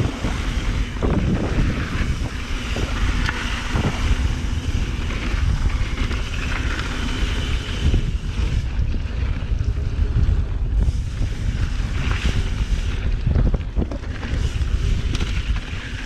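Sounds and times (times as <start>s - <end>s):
tyres rolling on dirt trail: 0.0s - 16.0s
wind buffeting microphone: 0.0s - 16.0s.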